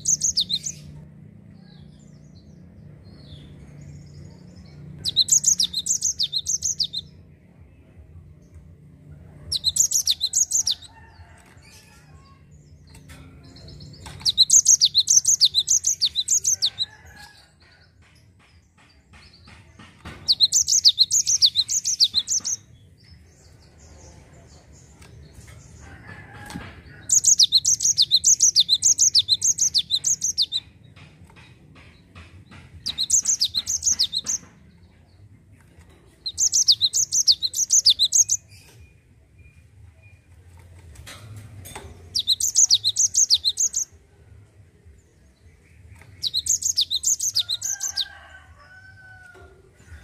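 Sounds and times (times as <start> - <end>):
bird singing rolling song: 0.0 - 17.2, 20.2 - 26.0, 26.9 - 48.3.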